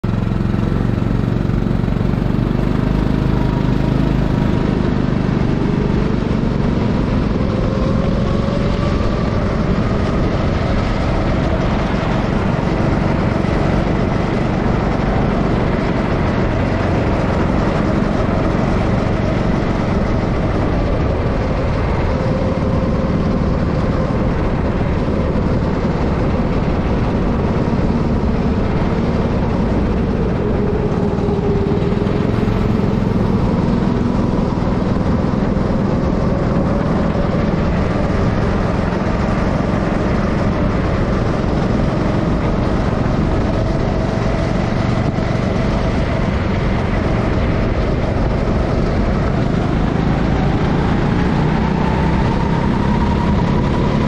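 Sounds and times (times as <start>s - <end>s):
kart engines revving: 0.0s - 54.0s.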